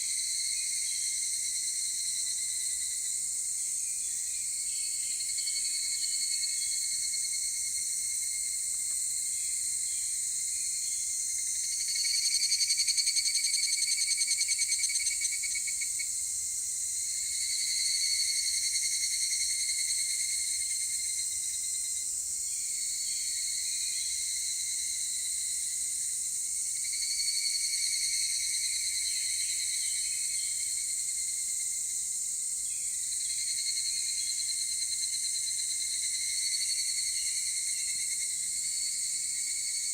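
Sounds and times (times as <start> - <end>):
cicadas pulsing trill: 0.0 - 39.9.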